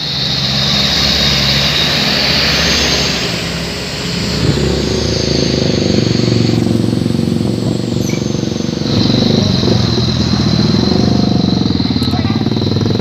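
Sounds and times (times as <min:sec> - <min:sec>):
truck diesel engine pulsing: 0:00.0 - 0:13.0.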